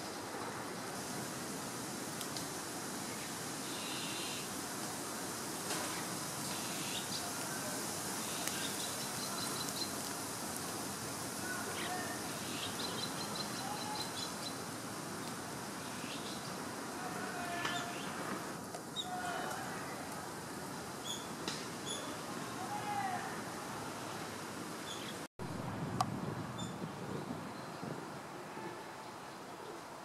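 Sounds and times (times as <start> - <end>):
outdoor background hiss: 0.0 - 30.0.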